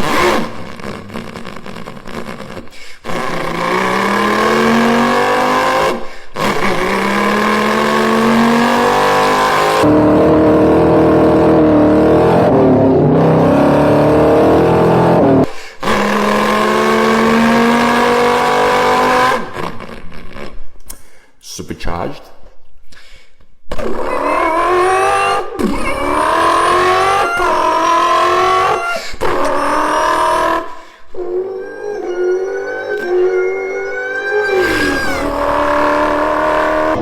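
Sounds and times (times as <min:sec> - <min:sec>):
engine accelerating hard: 0:00.0 - 0:19.9, 0:23.8 - 0:37.0.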